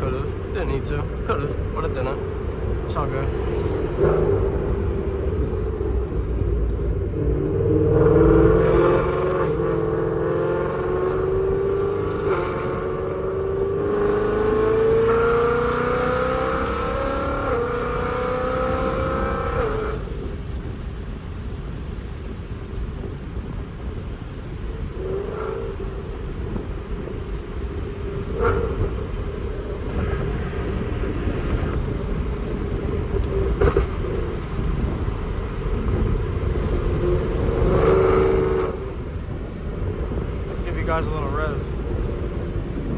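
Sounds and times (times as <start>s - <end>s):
car engine accelerating hard: 0.0s - 42.9s.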